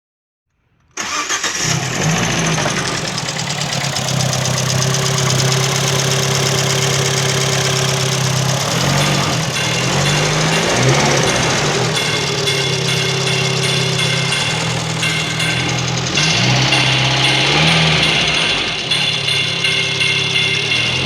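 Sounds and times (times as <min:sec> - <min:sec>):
car engine idling: 0:01.0 - 0:21.0.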